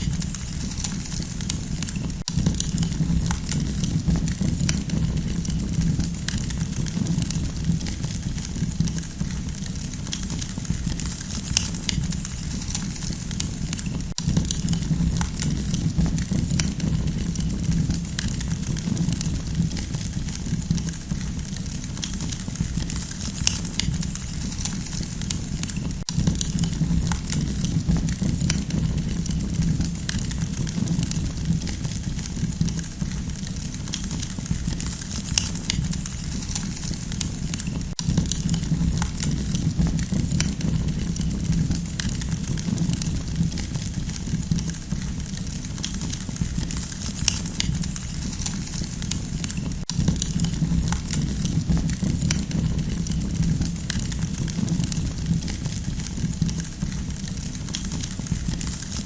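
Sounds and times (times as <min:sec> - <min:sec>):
campfire crackling and popping: 0:00.0 - 0:59.0
fire low rumble: 0:00.0 - 0:59.0.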